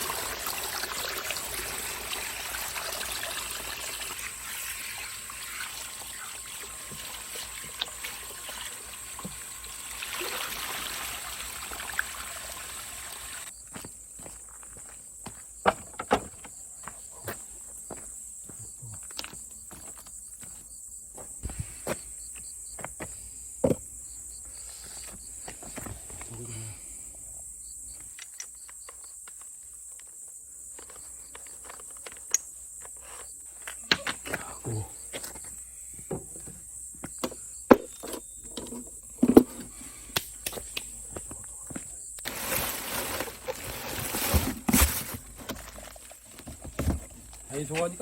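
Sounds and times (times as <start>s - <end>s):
insect chirping trills: 0.0s - 43.6s.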